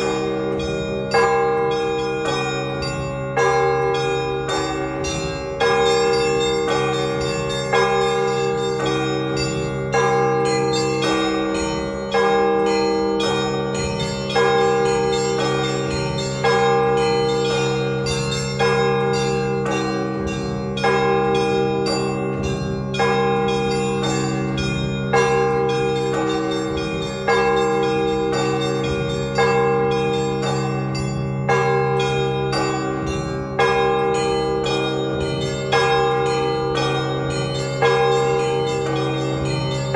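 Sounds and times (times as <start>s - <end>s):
heavy bell struck: 0.0s - 39.9s
small church bells chiming rapidly: 0.0s - 39.9s.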